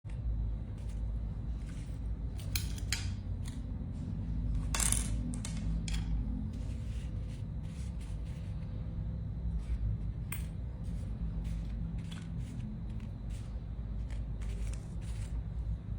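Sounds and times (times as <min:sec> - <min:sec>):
steady low rumble: 0:00.1 - 0:15.9.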